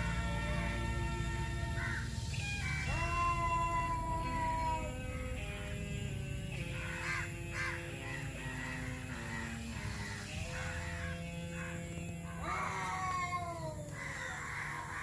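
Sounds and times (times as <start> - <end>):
crows cawing: 0.0 - 15.0.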